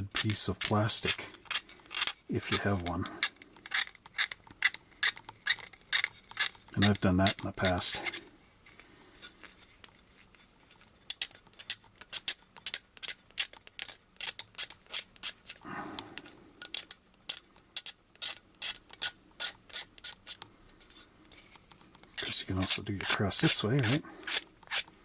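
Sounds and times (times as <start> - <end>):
hand tool scraping plastic: 0.0 - 25.0.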